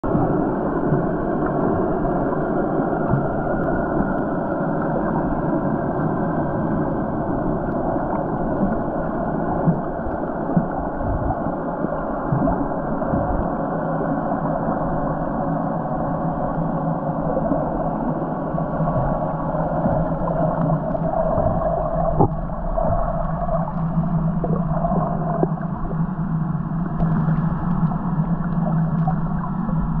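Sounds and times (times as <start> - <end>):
low steady hum: 0.0 - 30.0
muffled underwater rush: 0.0 - 30.0.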